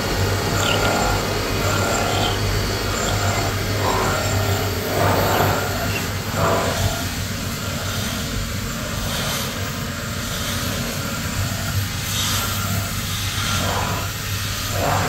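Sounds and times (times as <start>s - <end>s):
coolant hissing: 0.0s - 15.0s
milling machine hum: 0.0s - 15.0s.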